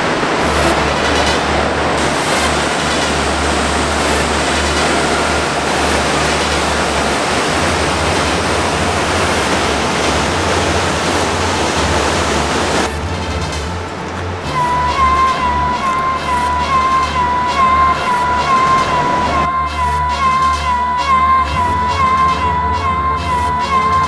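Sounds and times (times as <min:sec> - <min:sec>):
river rapids rushing: 0:00.0 - 0:19.5.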